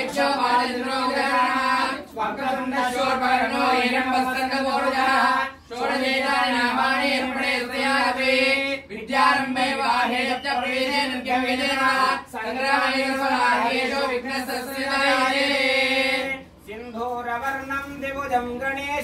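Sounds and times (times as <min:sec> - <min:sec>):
devotional singing: 0:00.0 - 0:16.5.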